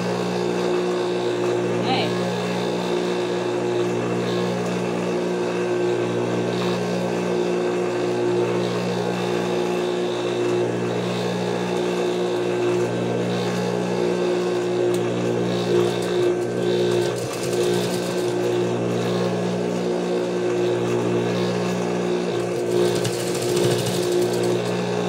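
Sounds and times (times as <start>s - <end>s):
sewing machine motor humming: 0.0s - 25.0s.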